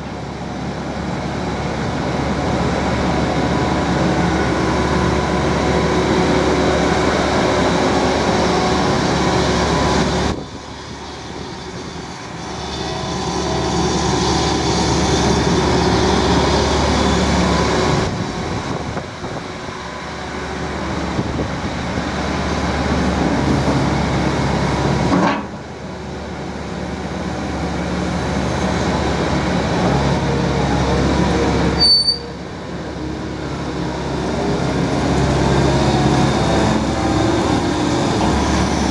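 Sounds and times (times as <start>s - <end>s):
excavator diesel engine under load: 0.0s - 38.9s.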